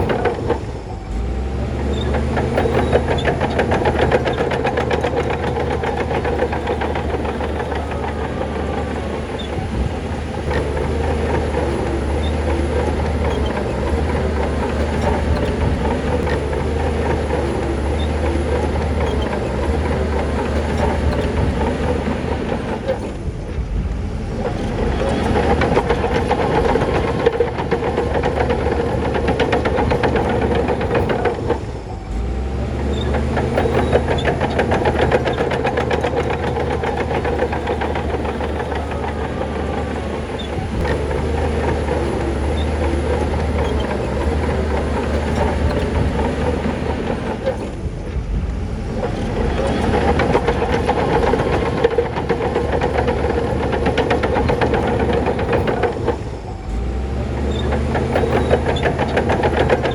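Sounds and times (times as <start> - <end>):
diesel engine running hard: 0.0 - 59.9
steel tracks clanking: 0.0 - 59.9.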